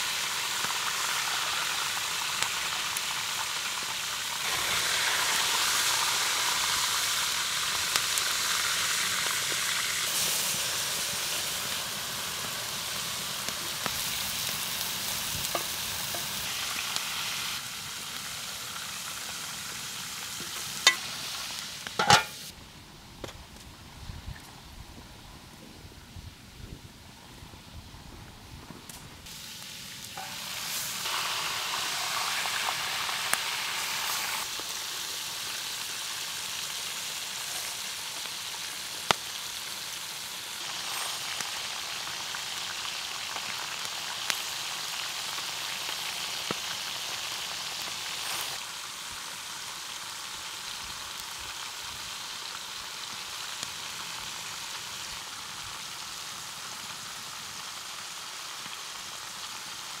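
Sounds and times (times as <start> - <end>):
ribs sizzling in a pot: 0.0 - 22.5, 29.2 - 60.0.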